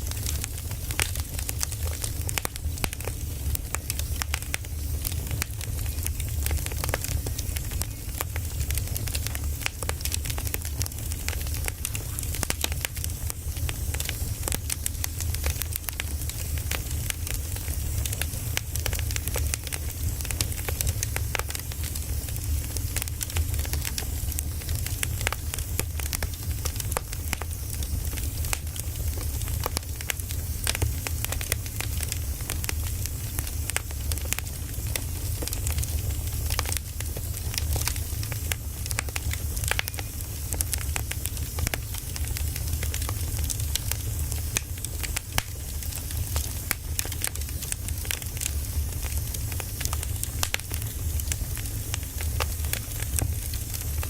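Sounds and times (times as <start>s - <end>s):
firewood crackling and popping: 0.0s - 54.0s
low fire rumble: 0.0s - 54.0s.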